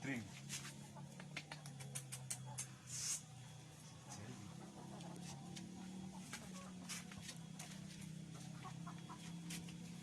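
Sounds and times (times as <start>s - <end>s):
chickens clucking: 0.5s - 10.0s.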